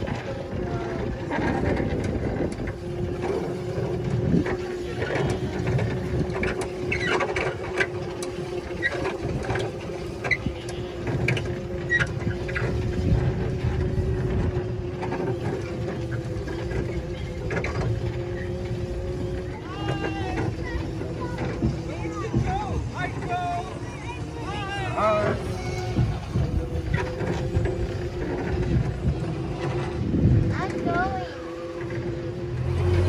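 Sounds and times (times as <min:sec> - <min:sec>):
steady two-tone mechanical hum: 0:00.0 - 0:33.0.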